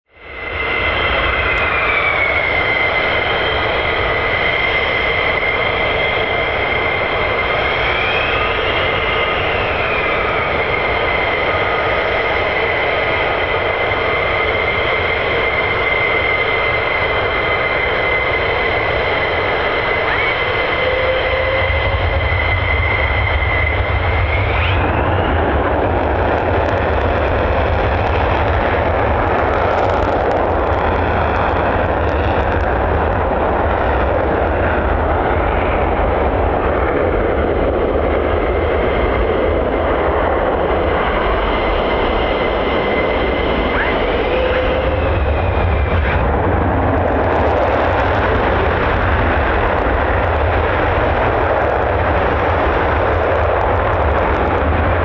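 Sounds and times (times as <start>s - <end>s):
high jet engine whine: 0.0s - 55.0s
jet afterburner roar: 0.1s - 55.0s
low jet rumble: 0.1s - 55.0s
jet engine crackling: 0.6s - 55.0s.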